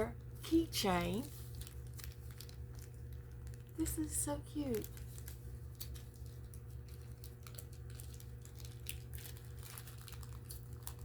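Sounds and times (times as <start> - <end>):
steady low hum: 0.0 - 11.0
packaging crinkling: 0.2 - 11.0.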